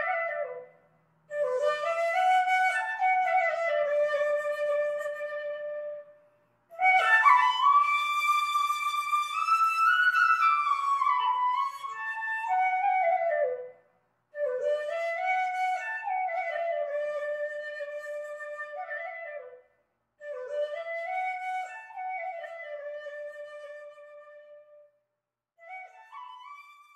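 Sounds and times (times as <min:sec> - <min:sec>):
solo flute melody: 0:00.0 - 0:13.8, 0:14.4 - 0:24.9, 0:25.6 - 0:26.9.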